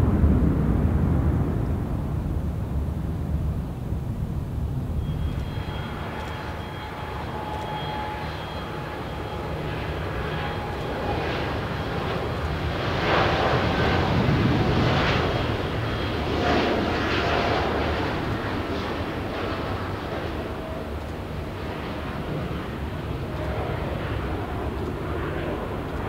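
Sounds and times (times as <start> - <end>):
jet engines at takeoff: 0.0 - 26.0.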